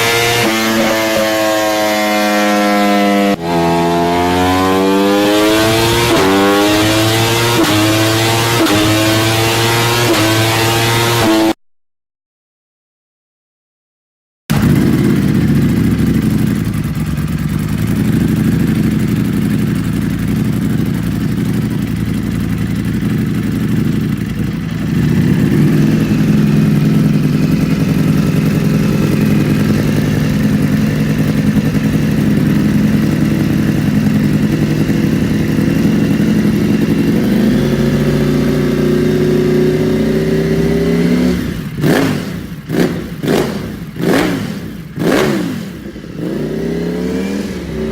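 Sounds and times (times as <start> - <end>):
motorcycle engine revving: 0.0 - 11.6, 14.5 - 47.9.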